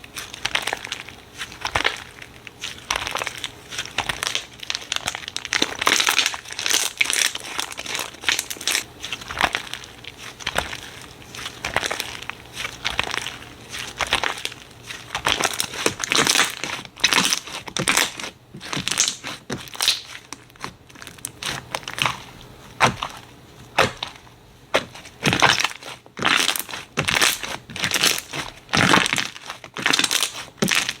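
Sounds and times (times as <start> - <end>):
slime crackling and popping: 0.1 - 31.0.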